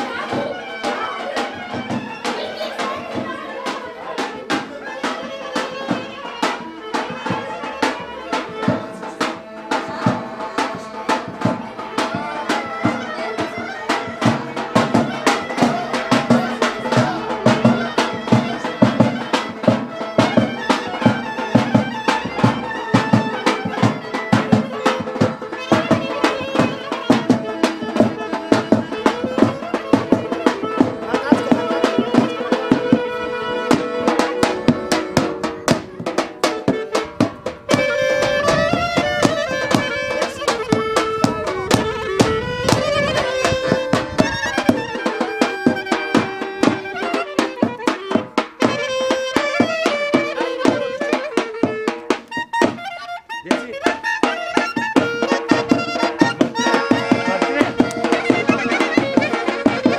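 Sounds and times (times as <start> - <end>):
fast drum beat: 0.0 - 59.9
wind instrument melody: 0.0 - 59.9.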